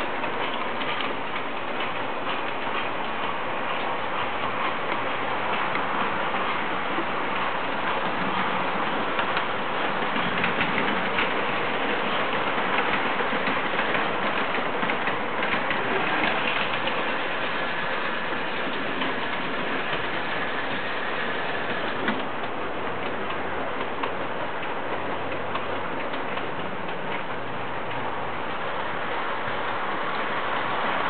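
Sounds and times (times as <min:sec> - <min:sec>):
model train wheels clattering: 0:00.0 - 0:28.7.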